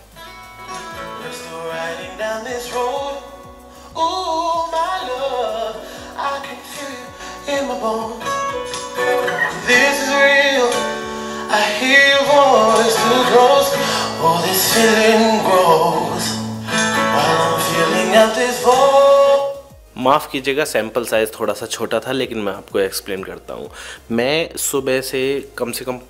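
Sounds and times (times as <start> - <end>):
song through tv speakers: 0.0 - 21.1.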